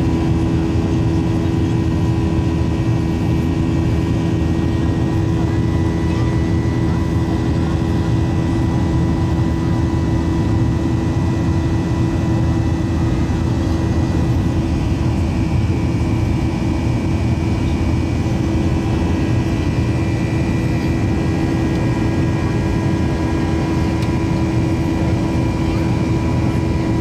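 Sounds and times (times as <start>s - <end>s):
constant low hum: 0.0s - 27.0s
jet airliner cabin drone: 0.0s - 27.0s.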